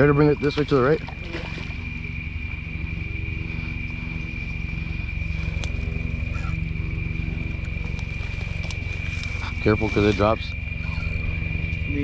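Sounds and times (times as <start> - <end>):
engine pulsing hum: 0.0 - 12.0.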